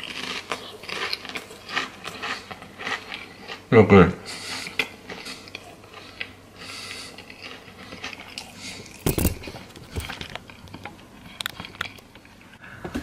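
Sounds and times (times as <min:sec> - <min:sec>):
person chewing crunchy food: 0:00.0 - 0:03.7, 0:04.3 - 0:12.6.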